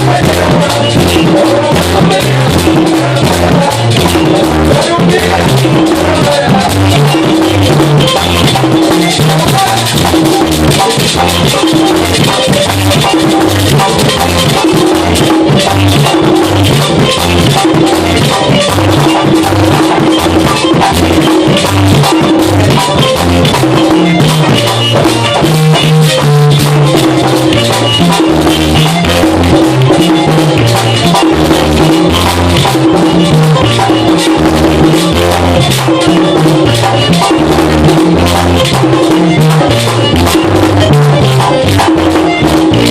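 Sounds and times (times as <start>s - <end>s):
drumming: 0.0s - 42.9s
electric bass line: 0.0s - 42.9s.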